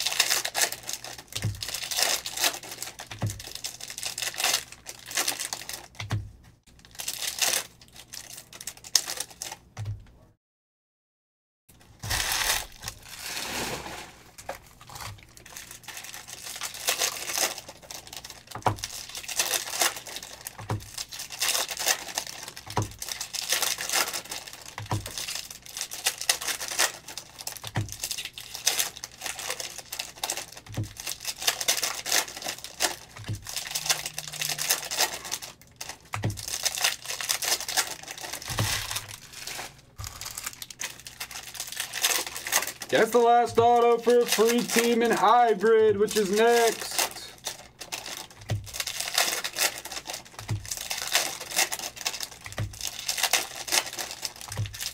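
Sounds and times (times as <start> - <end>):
foil wrappers crinkling and tearing: 0.0 - 6.1, 6.8 - 9.7, 11.8 - 54.9.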